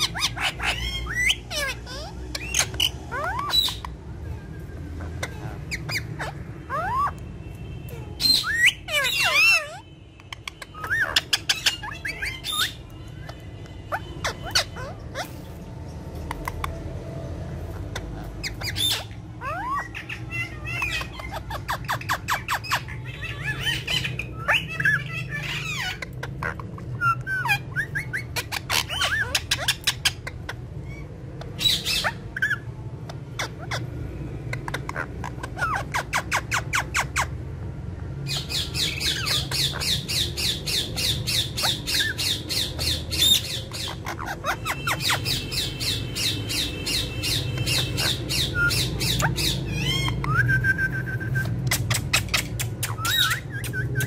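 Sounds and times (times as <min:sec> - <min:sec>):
parakeets squawking and chirping: 0:00.0 - 0:54.0.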